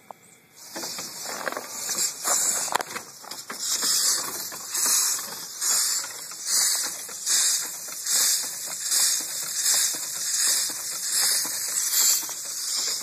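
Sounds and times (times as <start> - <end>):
steam cylinder hissing chuffs: 0.5 - 13.0.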